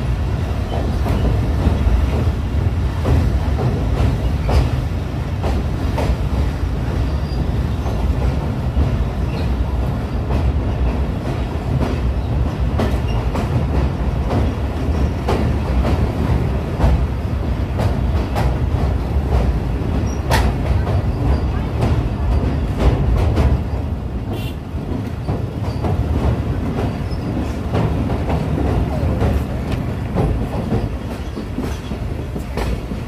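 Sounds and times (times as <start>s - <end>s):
train low rumble: 0.0s - 33.0s
wheels clacking over rails: 0.0s - 33.0s.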